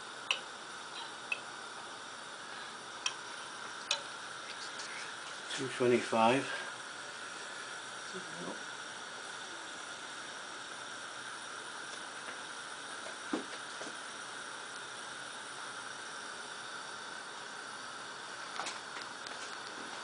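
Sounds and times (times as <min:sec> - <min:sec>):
gas burner hissing: 0:00.0 - 0:20.0.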